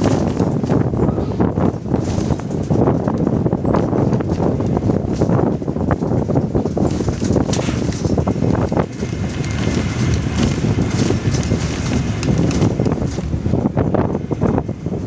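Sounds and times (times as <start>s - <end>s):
vehicle driving rumble: 0.0s - 15.0s
wind buffeting microphone: 0.0s - 15.0s.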